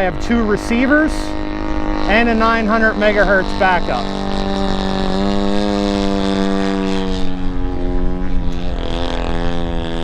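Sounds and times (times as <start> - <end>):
low wind rumble: 0.0 - 10.0
model plane propeller drone: 0.0 - 10.0.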